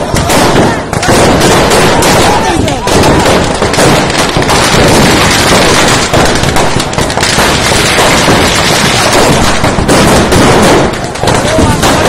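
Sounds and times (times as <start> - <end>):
firecrackers exploding: 0.0 - 12.0.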